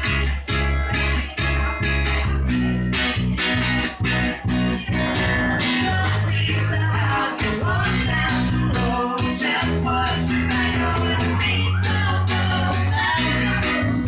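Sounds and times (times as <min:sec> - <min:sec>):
guitar plucked and strummed: 0:00.0 - 0:14.0
sustained bass notes: 0:00.0 - 0:14.0.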